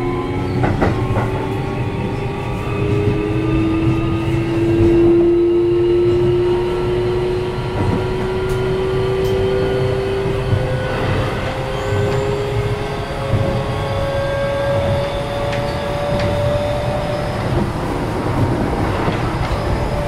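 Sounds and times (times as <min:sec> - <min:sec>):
electric train running rumble: 0:00.0 - 0:20.0
train motor whine: 0:00.0 - 0:20.0.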